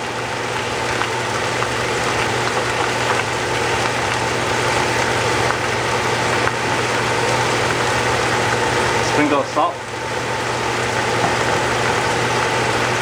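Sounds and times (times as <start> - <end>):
vegetables sizzling in a hot pan: 0.0 - 13.0.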